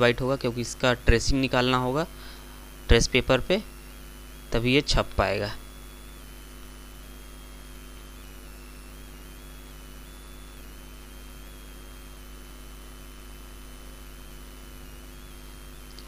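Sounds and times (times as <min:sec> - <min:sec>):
electrical mains hum: 0:00.0 - 0:16.0
faint high whine: 0:00.0 - 0:16.0.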